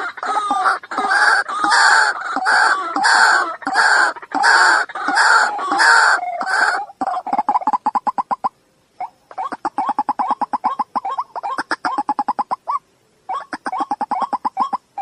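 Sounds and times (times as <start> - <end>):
bird croaking calls: 0.0 - 15.0.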